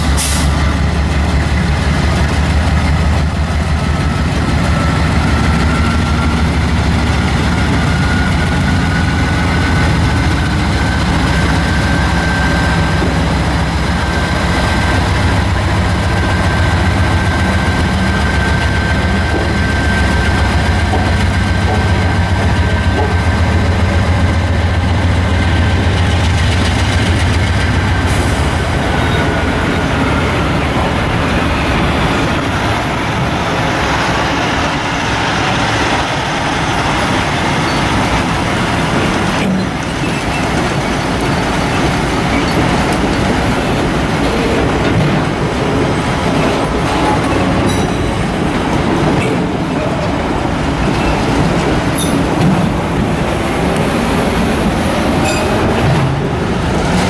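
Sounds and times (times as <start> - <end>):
diesel locomotive engine throb: 0.0 - 57.0
freight cars rolling on rails: 0.0 - 57.0.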